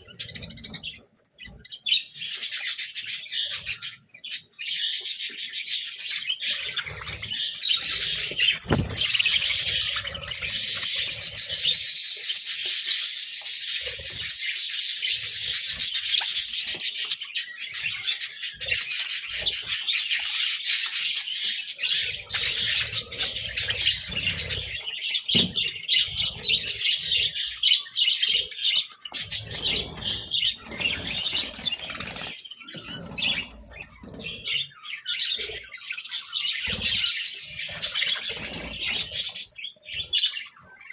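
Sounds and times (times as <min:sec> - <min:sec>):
budgerigars chattering: 0:00.0 - 0:40.9
birds rustling and thudding: 0:06.1 - 0:40.6.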